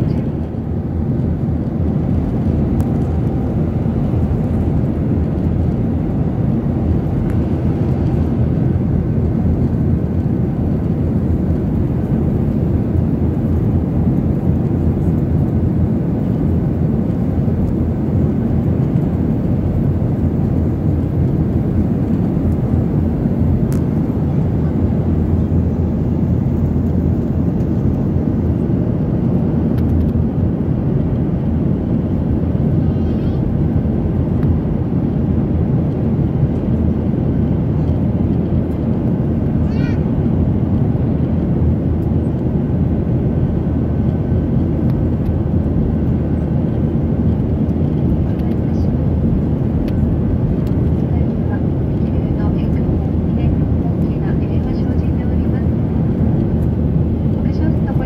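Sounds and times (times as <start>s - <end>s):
jet airliner cabin noise: 0.0s - 58.0s.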